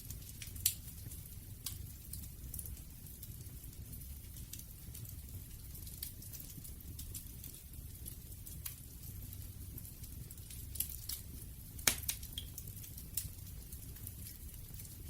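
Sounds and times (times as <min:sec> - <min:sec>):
campfire burning: 0:00.0 - 0:15.0.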